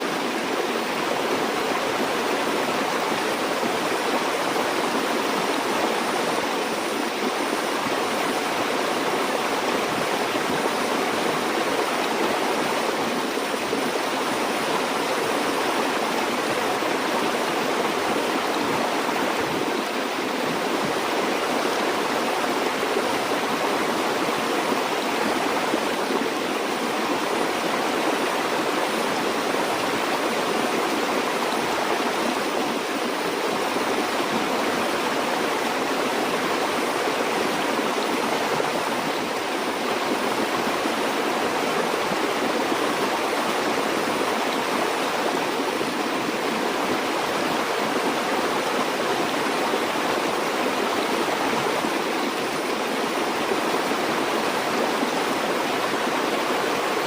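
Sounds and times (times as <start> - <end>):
water flowing over rocks: 0.0 - 57.0.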